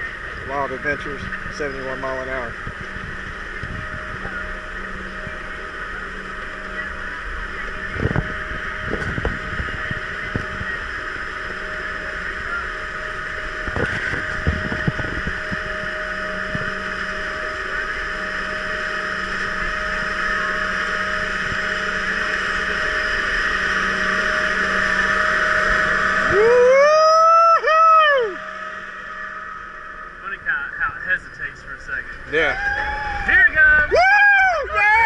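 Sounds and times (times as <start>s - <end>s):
chain lift mechanical whine: 0.0s - 35.0s.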